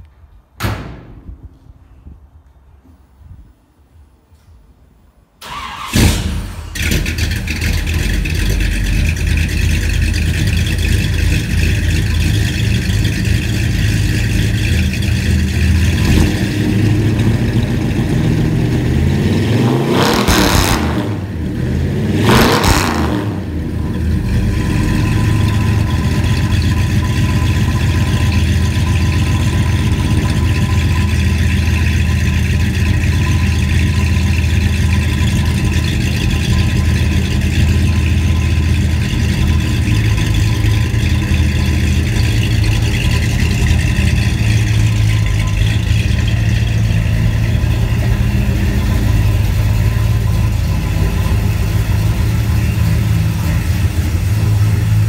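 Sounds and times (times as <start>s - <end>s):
car engine starting and idling: 5.4s - 55.0s
engine throttle blips: 5.4s - 55.0s.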